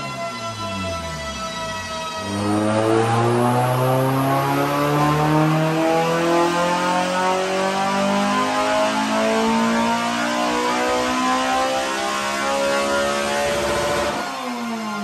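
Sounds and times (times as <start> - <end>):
car engine revving under load: 0.0 - 14.2.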